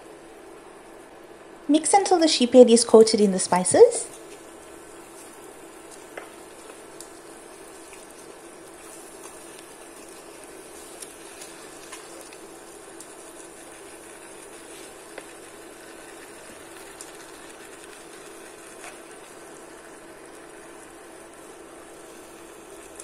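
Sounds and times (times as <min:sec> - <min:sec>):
meat sizzling in a frying pan: 0:04.1 - 0:23.0.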